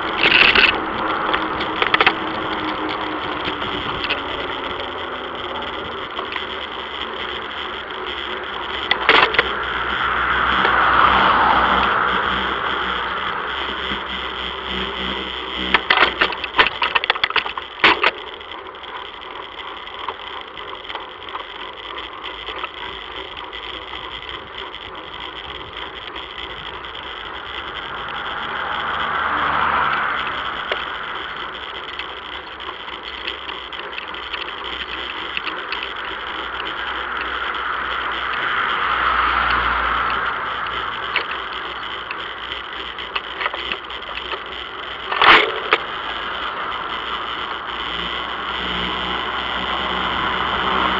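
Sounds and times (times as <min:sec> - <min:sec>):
bicycle rolling on pavement: 0:00.0 - 0:50.9
rattling and knocks from bike: 0:00.0 - 0:50.9.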